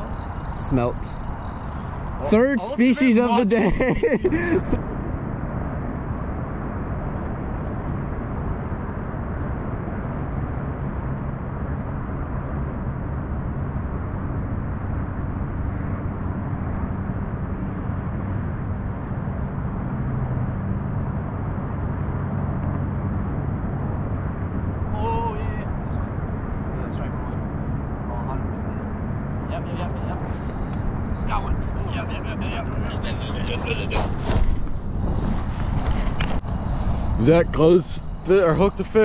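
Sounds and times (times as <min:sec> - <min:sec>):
faint low engine drone: 0:00.0 - 0:39.0
wind rumbling on microphone: 0:00.0 - 0:39.0.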